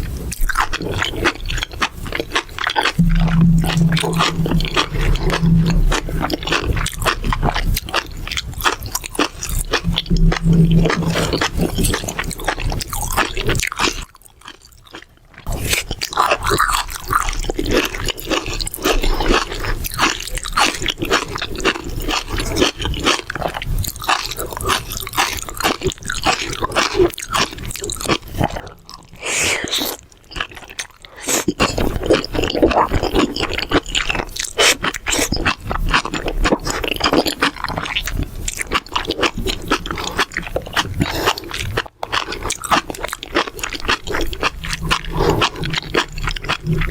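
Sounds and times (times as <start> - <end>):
close chewing and crunching: 0.0 - 46.9.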